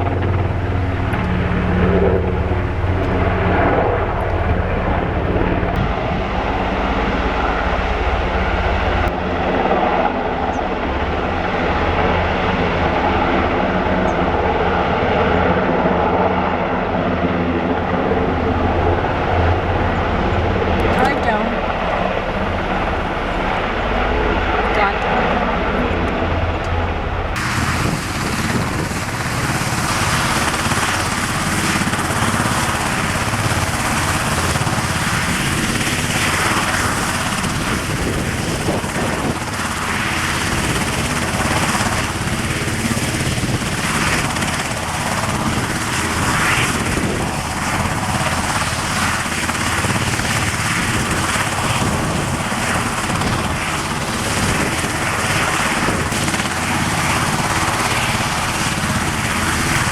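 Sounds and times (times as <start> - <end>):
helicopter rotor and engines: 0.0 - 59.9.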